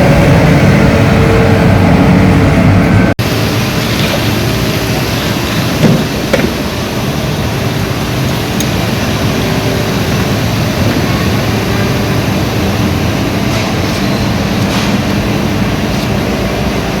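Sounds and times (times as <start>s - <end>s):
street sweeper engine running: 0.0s - 17.0s.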